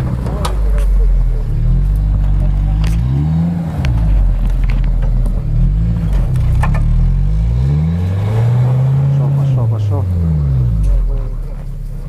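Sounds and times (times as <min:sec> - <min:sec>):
suv engine revving: 0:00.0 - 0:12.0.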